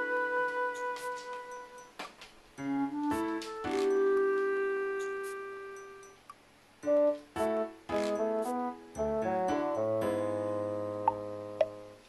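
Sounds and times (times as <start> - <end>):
background music of held notes: 0.0 - 12.0.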